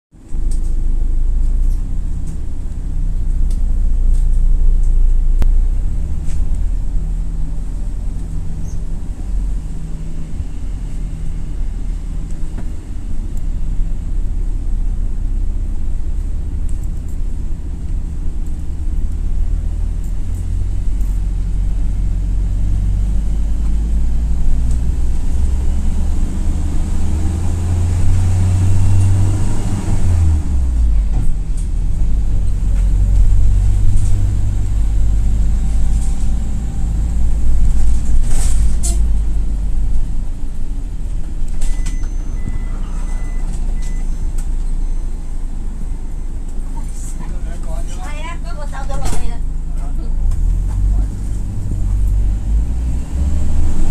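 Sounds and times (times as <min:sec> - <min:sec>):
minibus engine running: 0:00.1 - 0:53.9.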